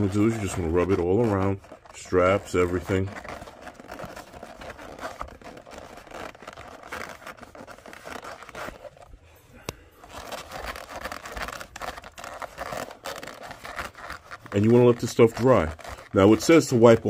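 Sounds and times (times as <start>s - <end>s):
cloth rubbing leather: 0.0s - 17.0s.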